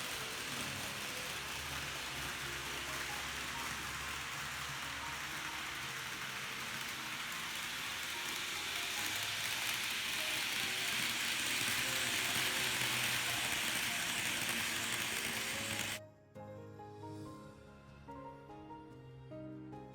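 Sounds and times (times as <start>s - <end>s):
model train motor whirring: 0.0s - 16.0s.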